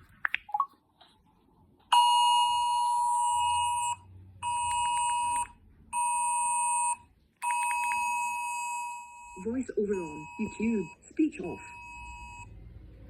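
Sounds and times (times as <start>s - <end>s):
two-tone alarm blasts: 1.9s - 12.6s.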